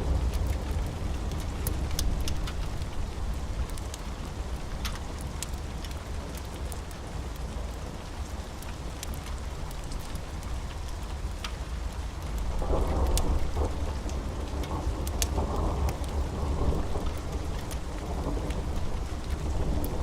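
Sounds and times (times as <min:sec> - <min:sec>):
steady rain: 0:00.0 - 0:20.0
wood fire crackling: 0:00.1 - 0:20.0.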